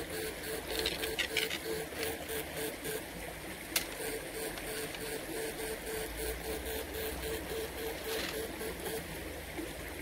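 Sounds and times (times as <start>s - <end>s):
pulsed electric buzzing: 0.0s - 9.2s.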